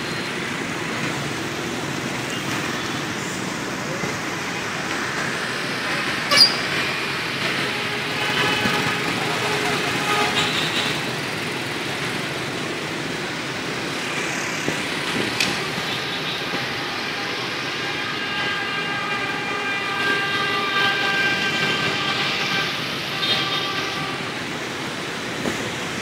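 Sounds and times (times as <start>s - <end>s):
motorbike engines: 0.0s - 26.0s.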